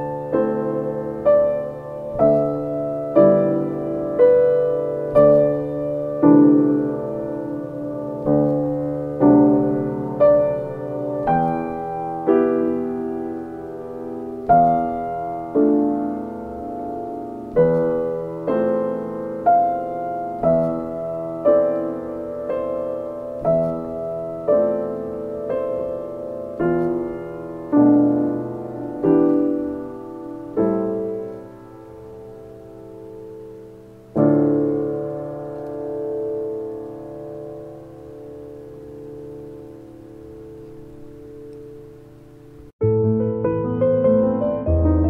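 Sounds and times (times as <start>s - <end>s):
slow piano music: 0.0s - 45.0s.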